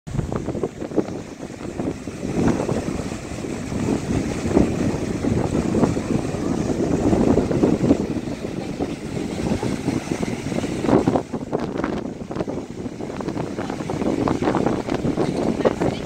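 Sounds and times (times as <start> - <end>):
breaking surf: 0.1 - 16.0
wind buffeting microphone: 0.1 - 16.0.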